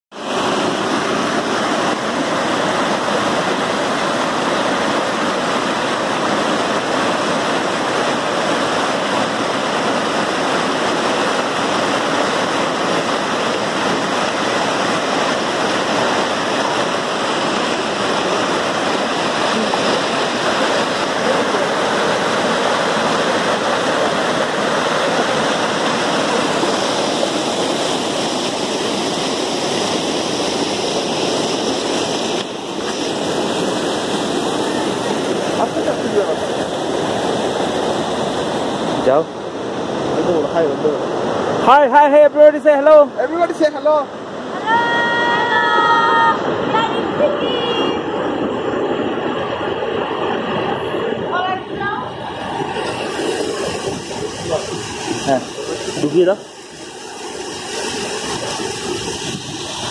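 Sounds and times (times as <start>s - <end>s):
river rushing over rocks: 0.1s - 59.9s.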